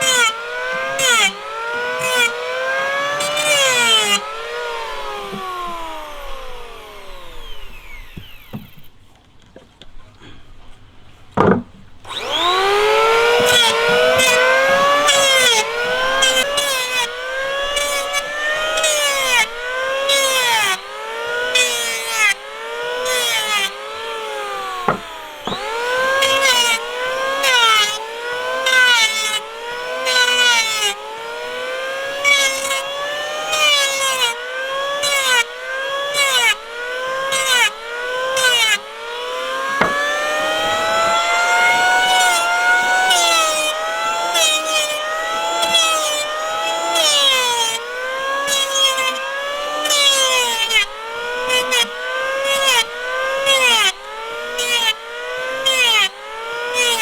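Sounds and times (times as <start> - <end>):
power tool cutting wood: 0.0 - 9.2, 10.0 - 57.0.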